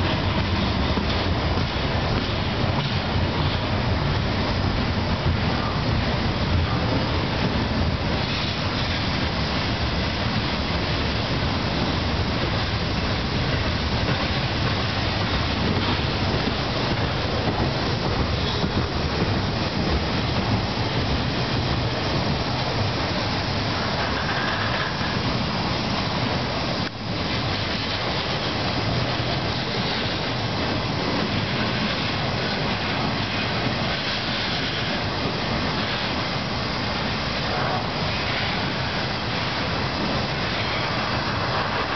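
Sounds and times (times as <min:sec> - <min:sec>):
train wheels on track: 0:00.0 - 0:41.9.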